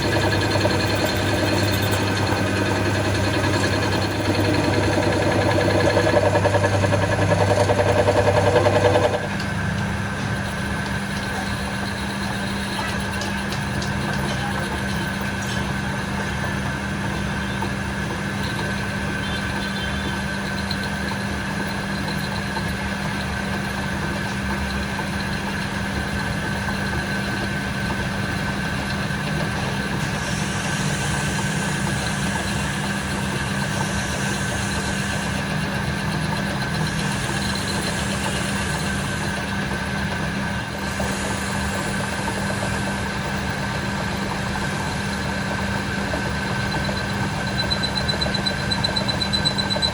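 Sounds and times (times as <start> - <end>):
workshop machinery humming: 0.0 - 49.9.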